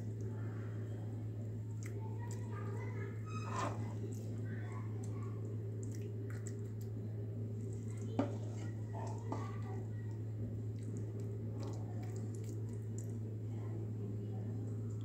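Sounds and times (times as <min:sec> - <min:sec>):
steady low hum: 0:00.0 - 0:15.0
wet squishing of syrupy food: 0:00.0 - 0:15.0.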